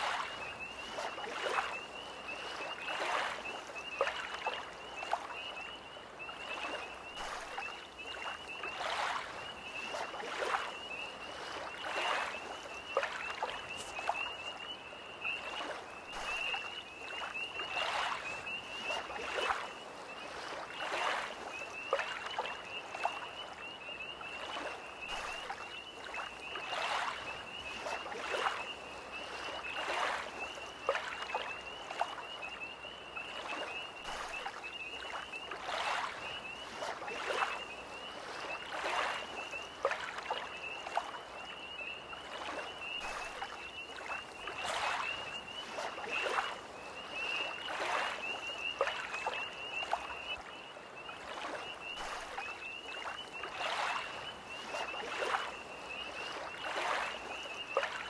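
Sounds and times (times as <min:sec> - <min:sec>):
lake waves lapping: 0:00.0 - 0:58.0
tree frogs trilling: 0:00.0 - 0:58.0.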